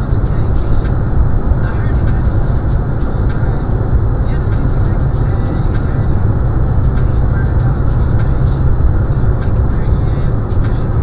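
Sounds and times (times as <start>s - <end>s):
car tyre and road noise: 0.0s - 11.0s.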